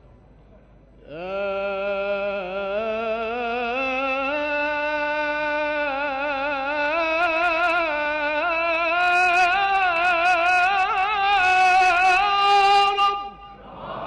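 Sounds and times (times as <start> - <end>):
man chanting unaccompanied: 1.0 - 13.6.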